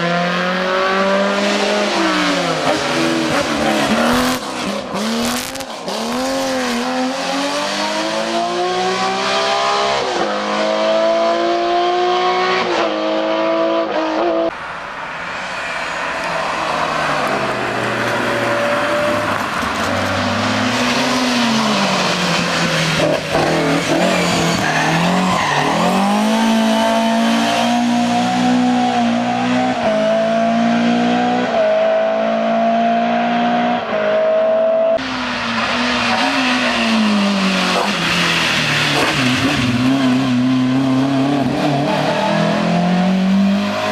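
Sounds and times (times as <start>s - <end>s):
race car engine at full throttle: 0.0s - 43.9s.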